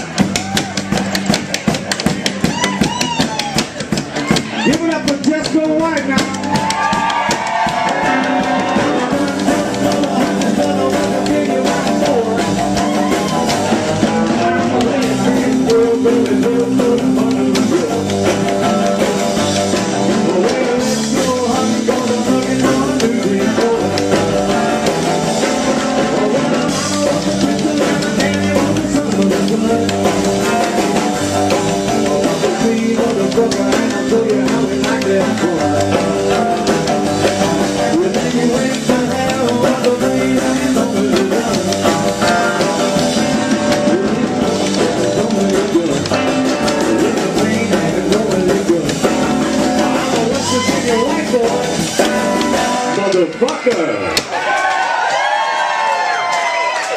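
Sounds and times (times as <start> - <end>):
rock music with singing: 0.0 - 56.9.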